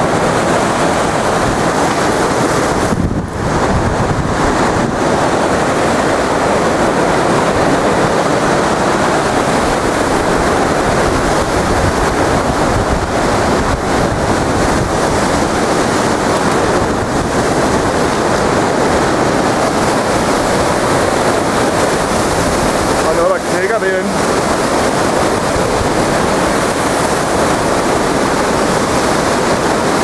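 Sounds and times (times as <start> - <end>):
wind buffeting microphone: 0.0 - 30.0
wind roaring through trees: 0.0 - 30.0.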